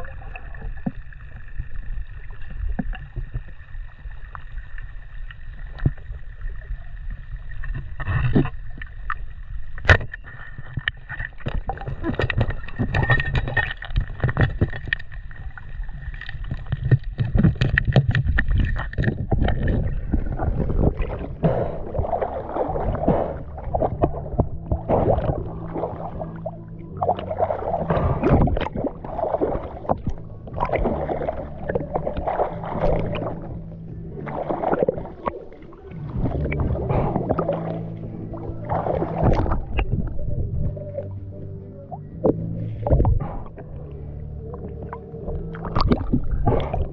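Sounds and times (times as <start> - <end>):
water sloshing and splashing: 0.0 - 46.9.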